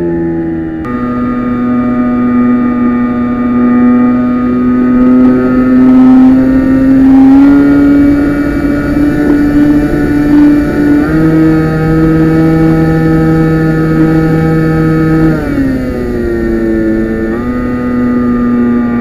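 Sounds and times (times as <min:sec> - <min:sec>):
model plane motor buzzing: 0:00.0 - 0:19.0.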